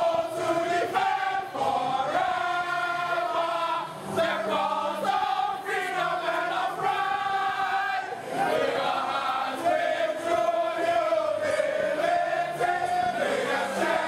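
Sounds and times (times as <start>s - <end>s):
football supporters chanting: 0.0s - 14.0s.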